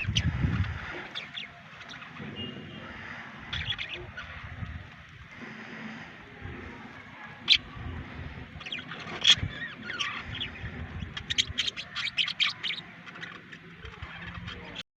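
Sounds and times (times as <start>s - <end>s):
budgerigars chirping and warbling: 0.0s - 14.8s.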